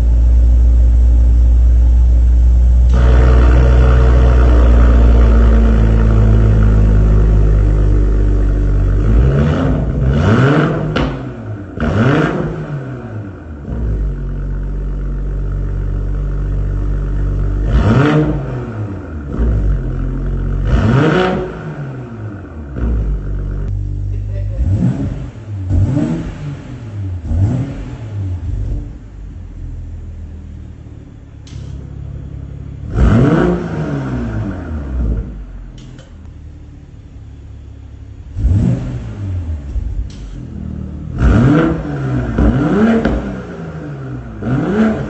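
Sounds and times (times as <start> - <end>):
car engine idling and revving: 0.0 - 45.0.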